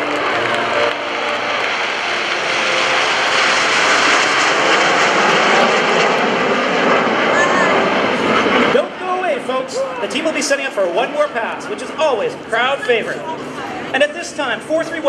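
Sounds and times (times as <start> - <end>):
jet aircraft passing overhead: 0.0 - 15.0.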